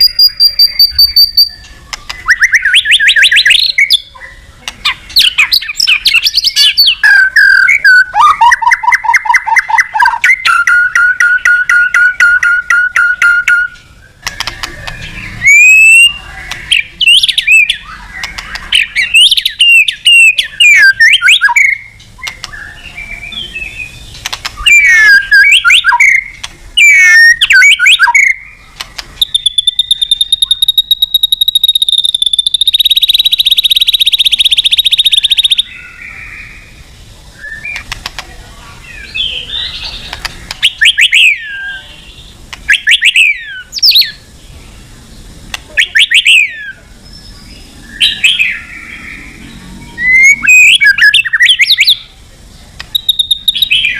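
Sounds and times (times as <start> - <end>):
bird singing whistled phrases: 0.0 - 14.2, 14.9 - 24.0, 24.6 - 28.6, 29.2 - 36.7, 37.4 - 37.8, 38.8 - 44.2, 45.8 - 52.1, 52.9 - 53.9.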